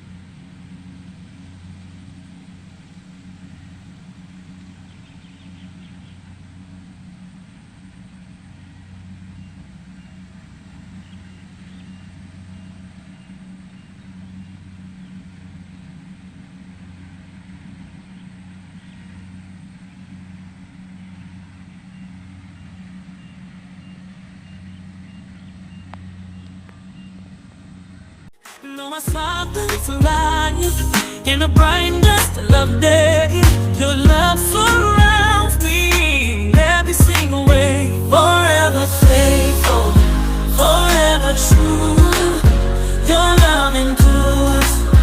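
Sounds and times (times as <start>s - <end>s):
engine humming: 0.0s - 45.0s.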